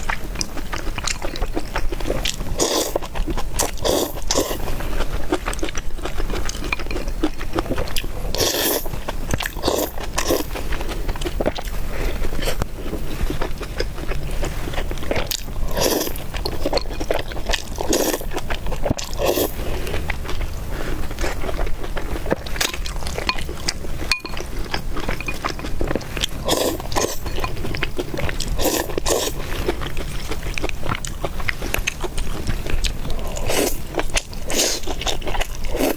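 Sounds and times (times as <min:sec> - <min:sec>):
person chewing food: 0:00.0 - 0:35.9.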